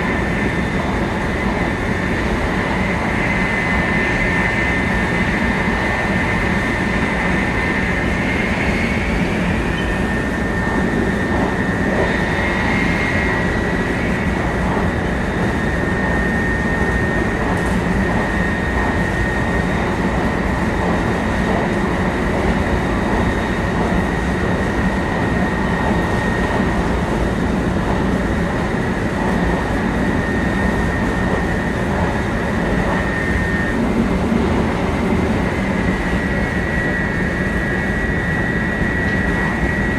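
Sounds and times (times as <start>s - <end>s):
high whine of traction motors: 0.0s - 39.9s
rumble of train wheels and air: 0.0s - 39.9s.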